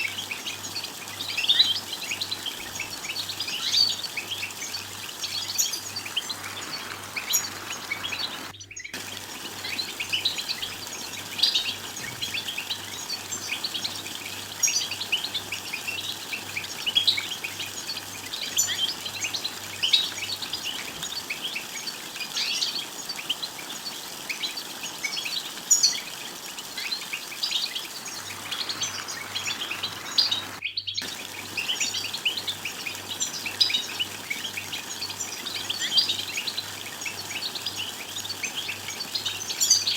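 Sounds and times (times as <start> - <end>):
goldfinches twittering: 0.0 - 39.9.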